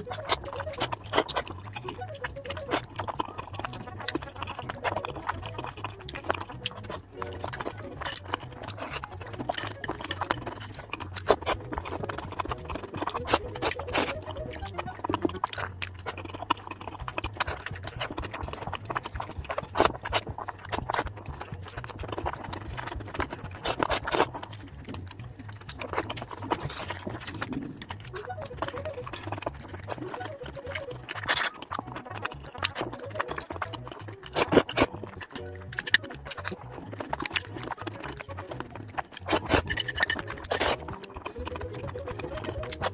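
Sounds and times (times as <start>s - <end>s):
wet chewing and lip-smacking: 0.0s - 42.9s.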